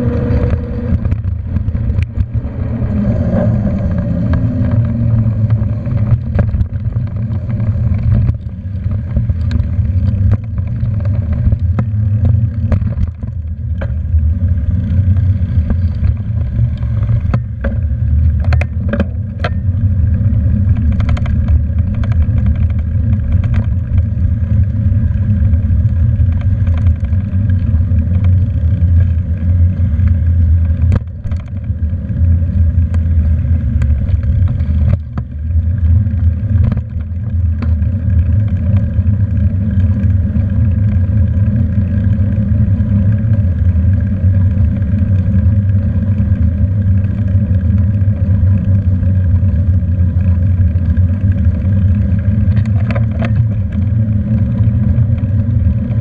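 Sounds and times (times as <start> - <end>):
wind and road rumble: 0.0 - 56.0.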